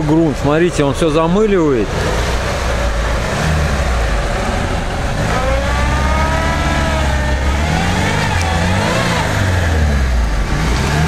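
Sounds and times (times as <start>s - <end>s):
car engine droning with whine: 0.0s - 11.0s.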